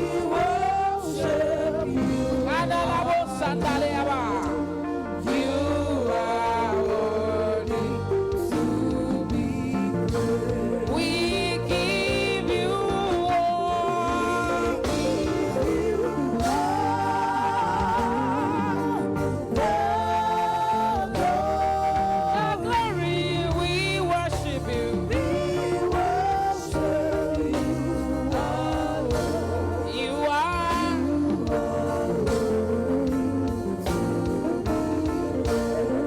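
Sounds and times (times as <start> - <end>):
instrumental backing: 0.0 - 36.0
person singing with vibrato: 0.0 - 36.0.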